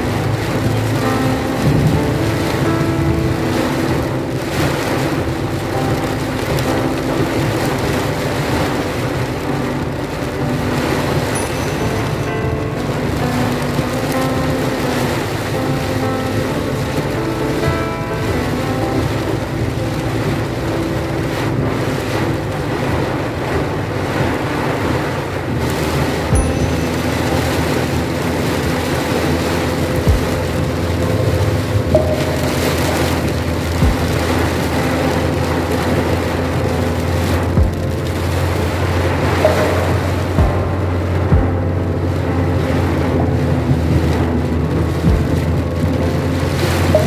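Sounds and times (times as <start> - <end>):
heavy rain: 0.0 - 47.0
wind buffeting microphone: 0.0 - 47.0.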